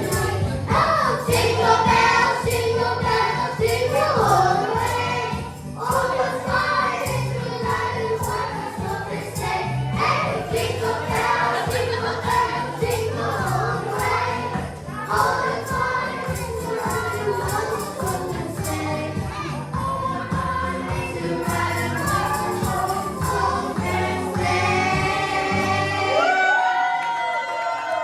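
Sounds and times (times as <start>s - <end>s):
band with bass and percussion: 0.0s - 26.0s
choir singing: 0.0s - 26.6s.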